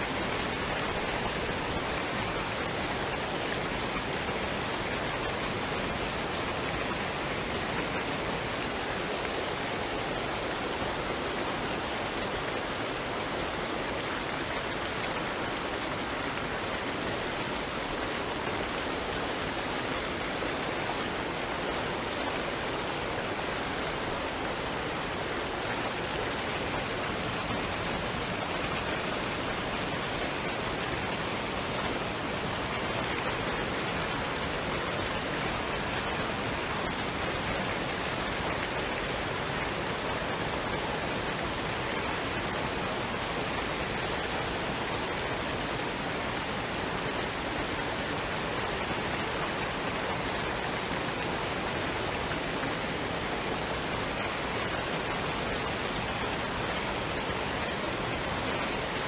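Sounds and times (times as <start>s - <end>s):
waterfall and stream rushing: 0.0s - 59.0s.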